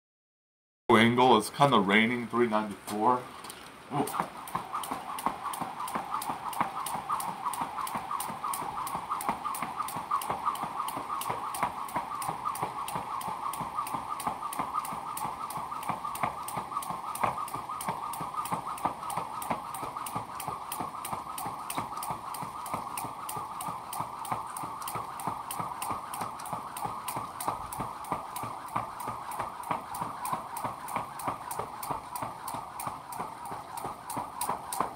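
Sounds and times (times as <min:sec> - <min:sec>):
jump rope slapping the ground: 0:03.9 - 0:34.9.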